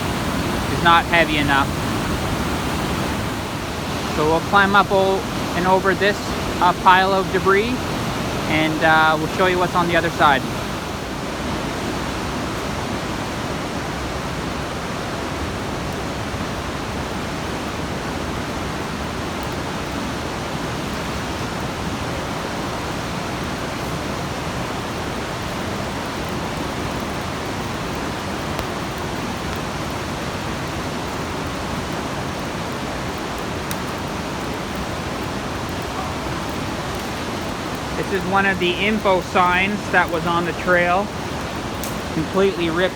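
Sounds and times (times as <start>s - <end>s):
fast-flowing river water: 0.0s - 42.9s.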